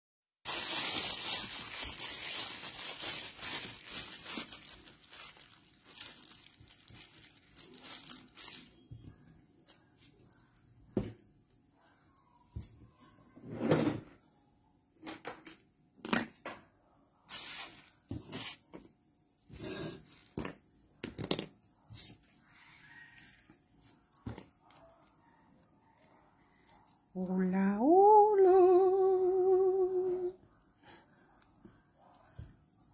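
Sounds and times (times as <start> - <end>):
rustling and crinkling: 0.4 - 14.2, 16.6 - 32.9.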